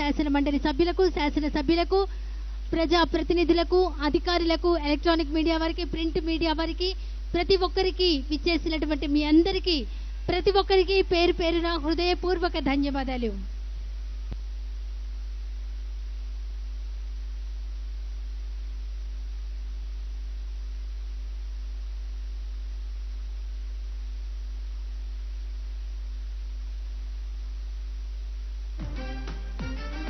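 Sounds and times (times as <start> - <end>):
electrical mains hum: 0.0 - 30.0
faint hiss: 0.1 - 30.0.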